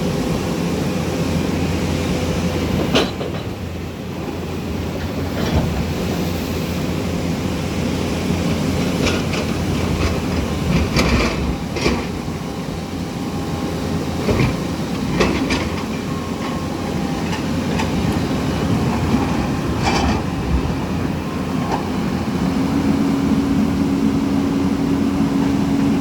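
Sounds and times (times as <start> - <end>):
river rushing roar: 0.0 - 26.0.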